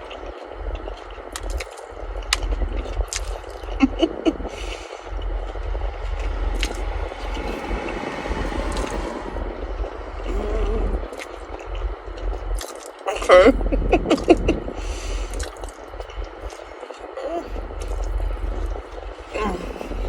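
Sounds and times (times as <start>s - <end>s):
crunchy bites and chewing: 0.0s - 9.1s, 9.9s - 13.2s, 14.1s - 20.0s
steady low rumble: 0.0s - 20.0s.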